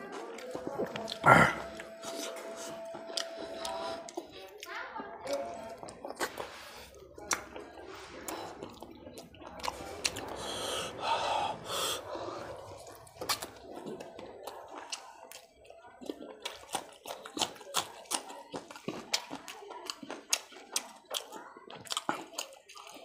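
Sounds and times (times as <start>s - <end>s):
chewing and lip-smacking: 0.0s - 11.0s, 12.0s - 23.0s.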